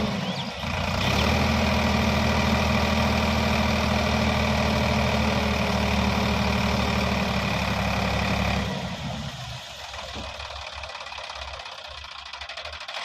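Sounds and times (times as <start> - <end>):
diesel engine revving and idling: 0.0 - 13.0.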